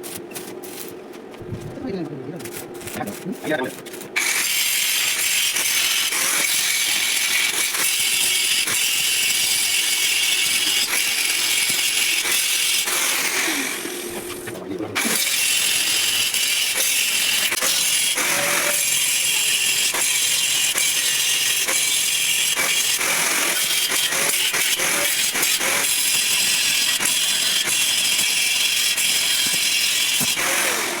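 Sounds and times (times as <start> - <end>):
arc welding crackling hiss: 2.4 - 14.4, 15.0 - 31.0.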